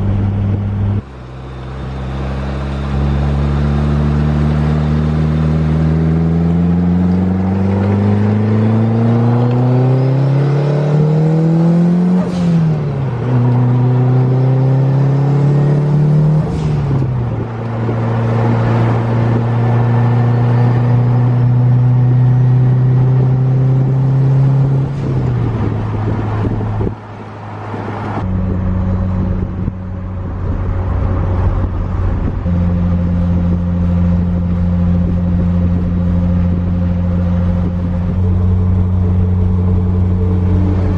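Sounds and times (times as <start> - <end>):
turbocharged car engine revving: 0.0 - 40.9.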